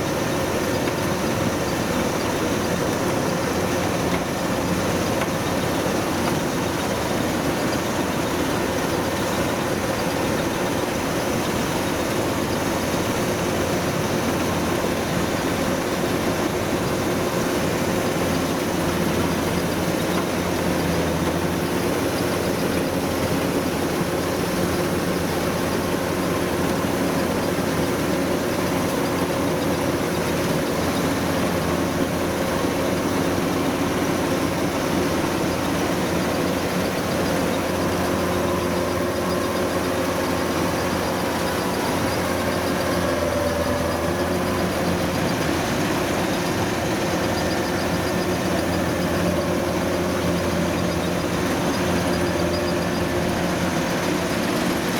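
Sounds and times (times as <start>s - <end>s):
diesel engine running steadily: 0.0s - 54.9s.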